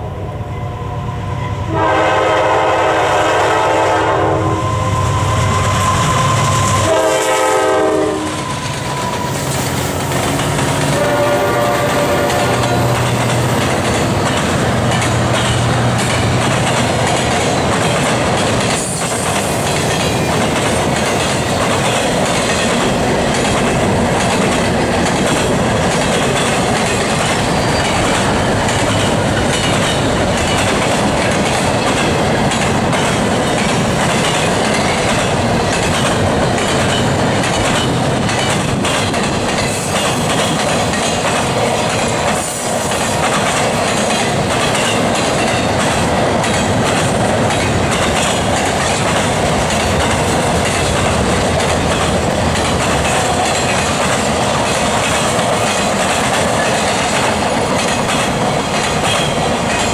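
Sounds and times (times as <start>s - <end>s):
train cars rumbling and rattling: 0.0s - 59.9s
wheels clicking over rail joints: 11.8s - 59.9s.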